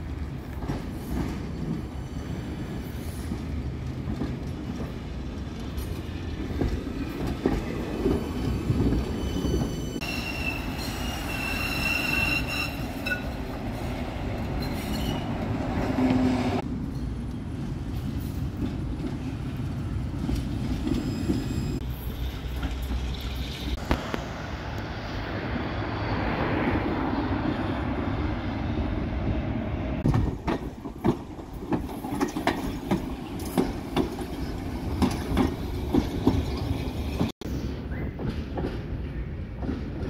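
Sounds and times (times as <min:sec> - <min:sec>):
wheels clacking on rails: 0:00.0 - 0:24.3, 0:30.0 - 0:40.0
tram rolling rumble: 0:00.0 - 0:40.0.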